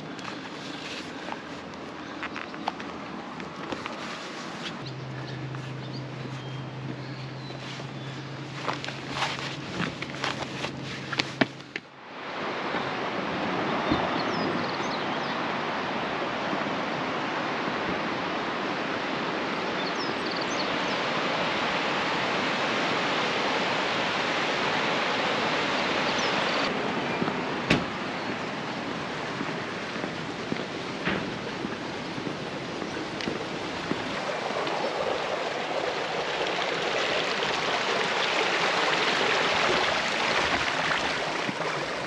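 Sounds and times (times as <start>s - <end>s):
stream rushing: 0.0s - 42.0s.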